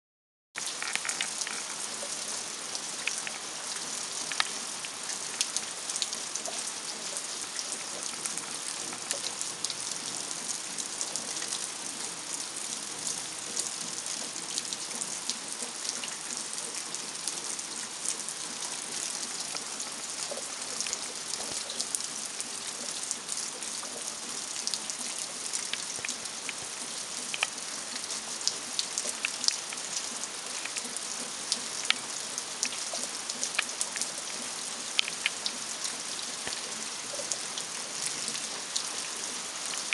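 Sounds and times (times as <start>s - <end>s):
steady rain falling: 0.6s - 39.9s.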